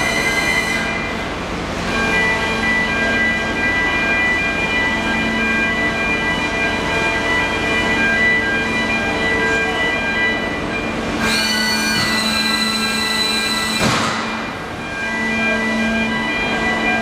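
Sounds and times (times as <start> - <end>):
high-pitched metallic whine: 0.0 - 17.0
machinery humming: 0.0 - 17.0.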